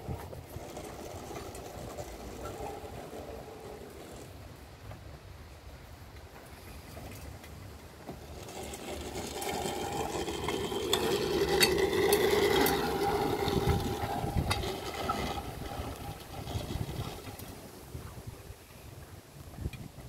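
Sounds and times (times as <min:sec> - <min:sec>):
reel mower whirring: 0:00.0 - 0:05.1, 0:06.4 - 0:18.3.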